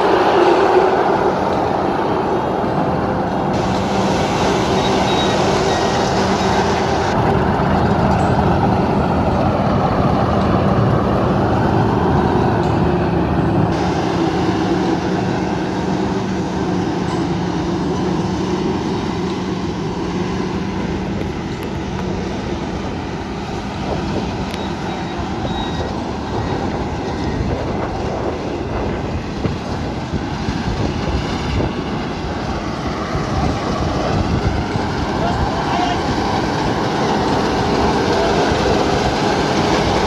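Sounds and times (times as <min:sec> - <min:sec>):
combine harvester rumbling: 0:00.0 - 0:40.0.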